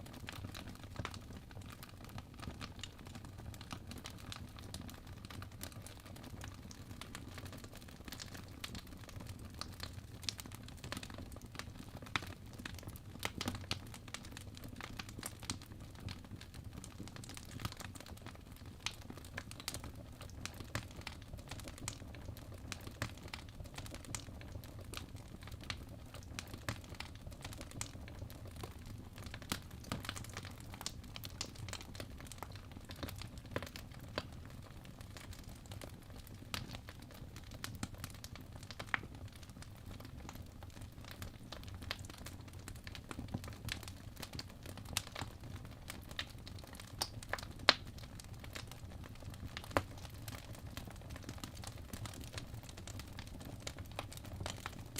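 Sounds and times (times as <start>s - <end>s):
wood fire crackling: 0.1s - 54.9s.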